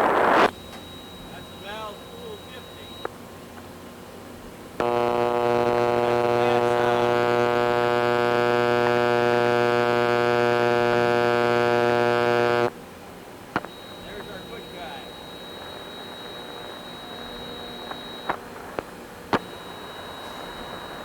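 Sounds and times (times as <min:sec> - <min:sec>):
steady valve buzz: 0:00.0 - 0:03.3, 0:04.8 - 0:12.8, 0:13.5 - 0:21.0.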